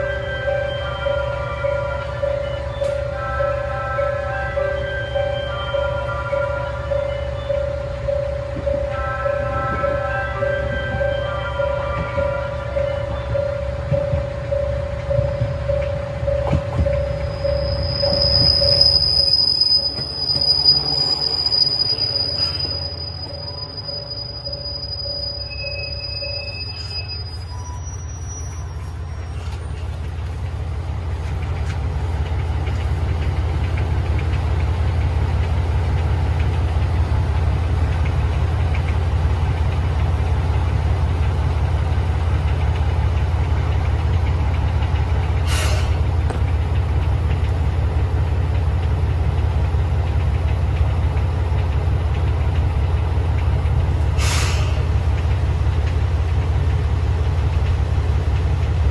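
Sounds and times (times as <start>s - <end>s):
diesel railcar engine rumbling: 0.0s - 58.9s.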